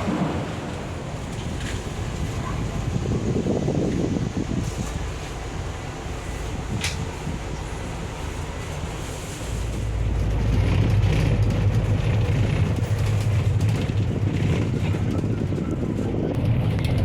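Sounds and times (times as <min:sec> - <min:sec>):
vehicle rumble from on board: 0:00.0 - 0:17.0.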